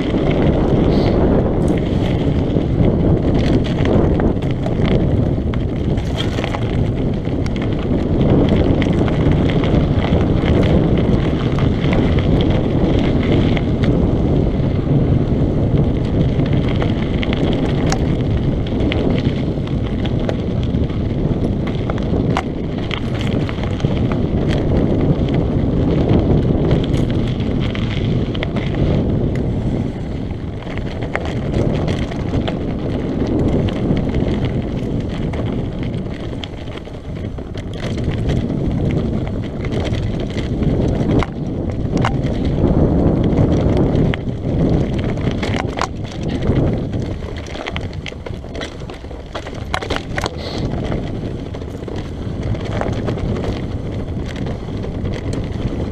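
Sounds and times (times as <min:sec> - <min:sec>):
bike clicks and rattles: 0:00.0 - 0:55.9
tyres rumbling over gravel: 0:00.0 - 0:55.9
wind buffeting microphone: 0:00.0 - 0:55.9.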